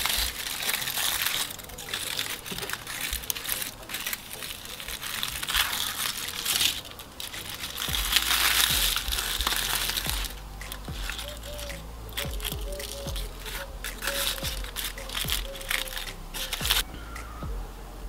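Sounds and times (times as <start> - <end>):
aluminium foil crinkling: 0.0 - 16.8.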